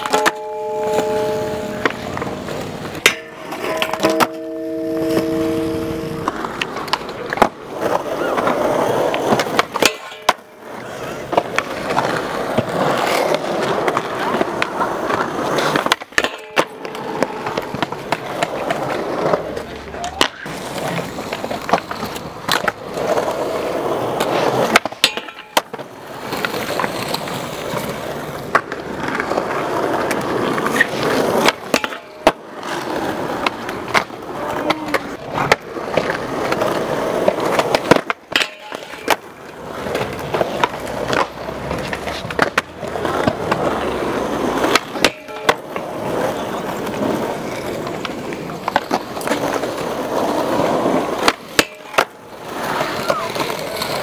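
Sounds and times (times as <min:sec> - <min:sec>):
skateboard clacks on metal rail: 0:00.0 - 0:54.0
skateboard wheels rolling on concrete: 0:00.0 - 0:54.0.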